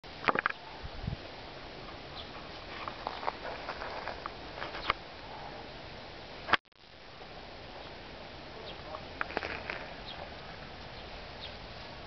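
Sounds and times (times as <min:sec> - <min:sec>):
leaves rustling: 0:00.0 - 0:12.0
outdoor hiss: 0:00.1 - 0:12.0.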